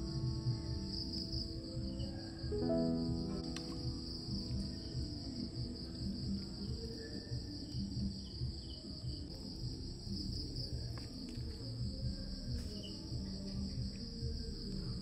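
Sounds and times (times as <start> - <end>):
crickets chirring: 0.0 - 15.0
soft background music: 0.0 - 15.0.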